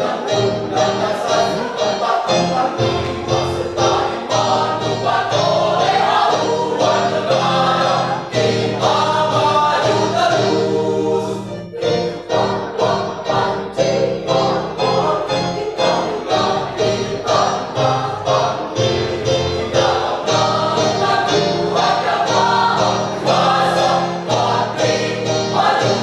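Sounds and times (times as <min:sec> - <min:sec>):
mixed choir singing a march: 0:00.0 - 0:26.0.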